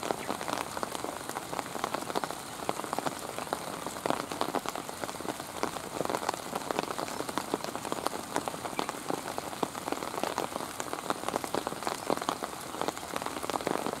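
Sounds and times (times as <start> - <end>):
rain falling: 0.0 - 14.0
raindrops tapping: 0.0 - 14.0.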